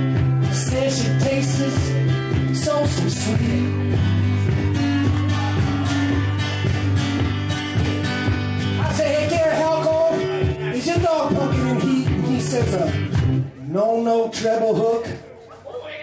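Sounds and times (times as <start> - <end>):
guitar strumming: 0.0 - 14.9.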